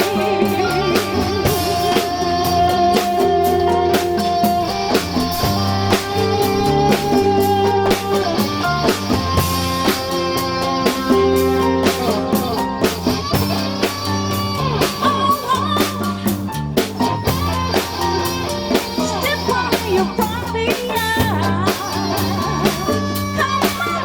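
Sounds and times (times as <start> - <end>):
bass guitar: 0.0 - 24.0
drum kit: 0.0 - 24.0
guitar lead melody: 0.0 - 24.0.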